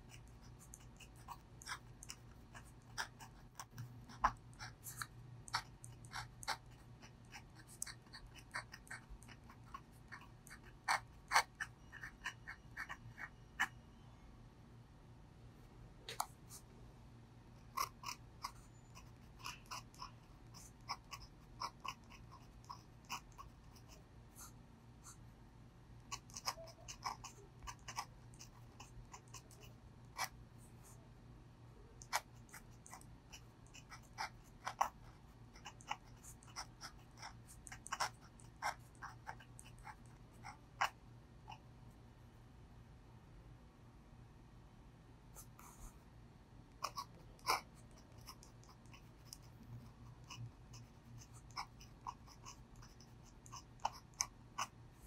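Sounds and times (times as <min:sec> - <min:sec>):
pen nib scratching on paper: 0:00.0 - 0:13.8, 0:16.1 - 0:16.7, 0:17.6 - 0:25.4, 0:26.0 - 0:31.0, 0:32.0 - 0:41.6, 0:45.4 - 0:46.0, 0:46.8 - 0:55.0
faint low hum: 0:00.0 - 0:55.0.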